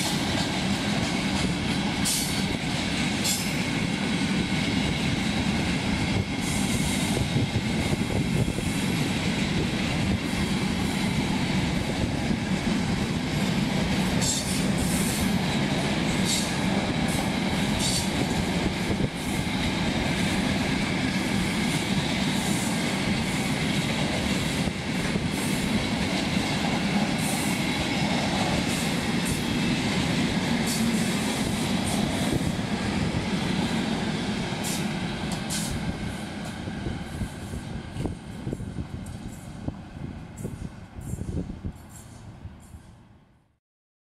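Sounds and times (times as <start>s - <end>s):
freight train rumbling and clattering: 0.0s - 43.1s.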